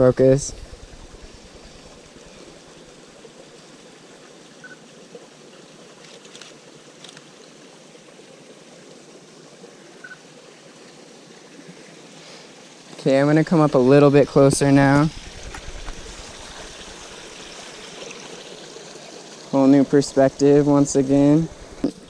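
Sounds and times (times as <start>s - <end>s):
stream and waterfall rushing: 0.0s - 22.0s.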